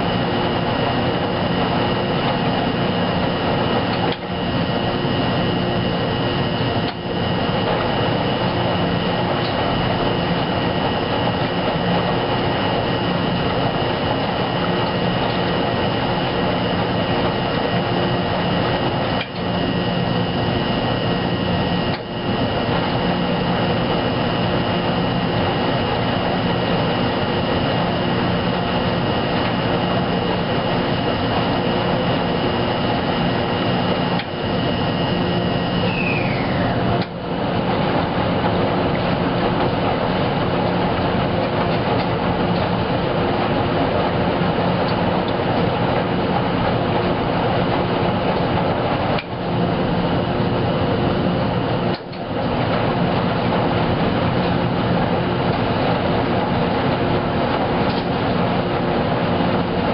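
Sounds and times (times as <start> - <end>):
washing machine motor running: 0.0 - 59.9.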